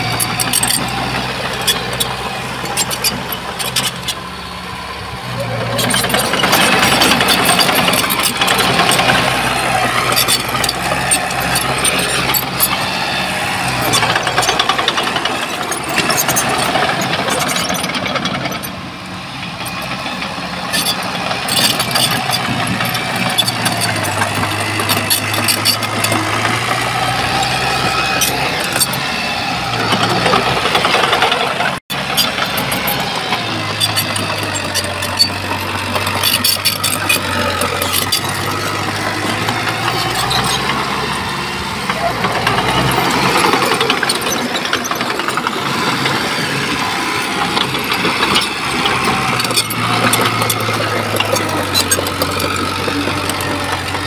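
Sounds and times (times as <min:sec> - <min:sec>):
clatter and scrape: 0:00.0 - 0:04.2, 0:05.4 - 0:18.8, 0:19.5 - 0:54.0
diesel machinery engine: 0:00.0 - 0:54.0.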